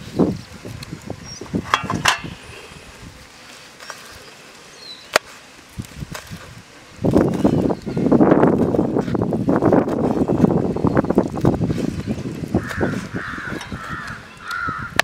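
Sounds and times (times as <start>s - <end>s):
wind gusting on microphone: 0.0s - 15.0s.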